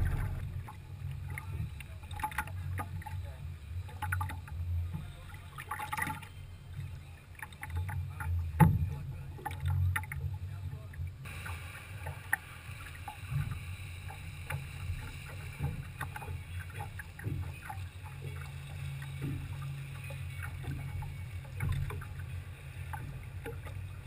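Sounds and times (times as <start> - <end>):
low steady rumble: 0.0 - 24.0
water lapping against boat hull: 0.0 - 24.0.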